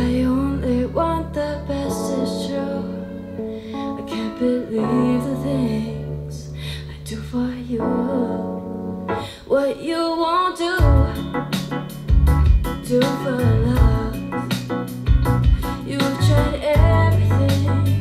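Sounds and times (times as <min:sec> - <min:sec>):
song with guitar and bass: 0:00.0 - 0:09.5, 0:10.8 - 0:18.0.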